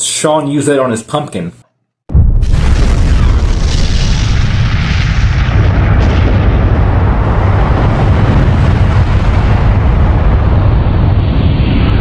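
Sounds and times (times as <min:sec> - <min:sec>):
explosion rumble: 0:02.1 - 0:12.0.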